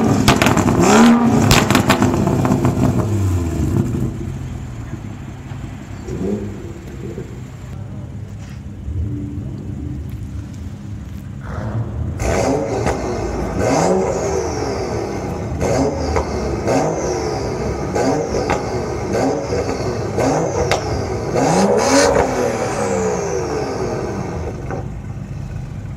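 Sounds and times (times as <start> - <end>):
car engine revving: 0.0 - 25.9
exhaust cracks: 0.0 - 25.9.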